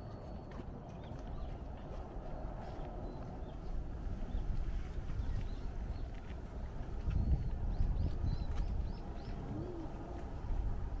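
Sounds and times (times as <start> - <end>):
footsteps on a trail: 0.0 - 11.0
wind on the microphone: 0.0 - 11.0.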